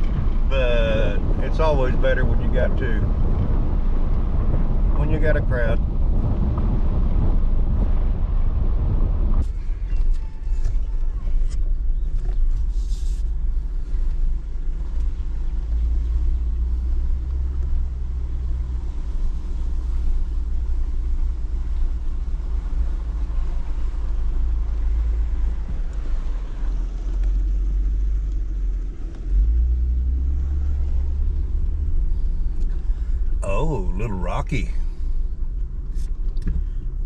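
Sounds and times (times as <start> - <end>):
vehicle rumbling on dirt road: 0.0 - 37.0.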